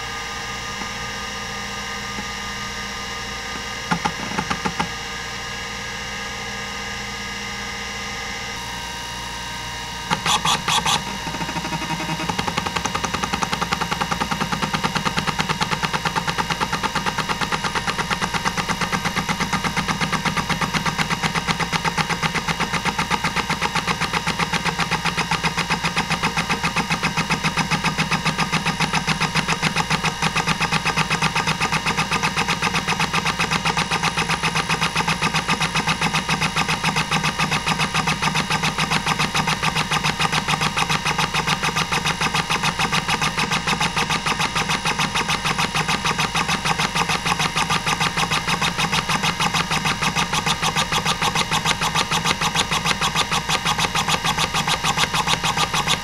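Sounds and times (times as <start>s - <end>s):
hard drive spindle whine: 0.0s - 56.0s
hard drive clicks: 3.6s - 5.0s, 10.1s - 56.0s
hard drive head chatter: 3.6s - 5.0s, 10.0s - 56.0s.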